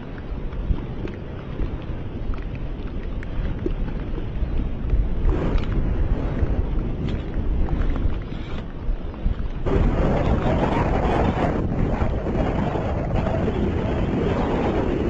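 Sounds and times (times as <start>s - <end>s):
lava fountain rumbling: 0.0s - 15.0s
wind buffeting microphone: 0.0s - 15.0s.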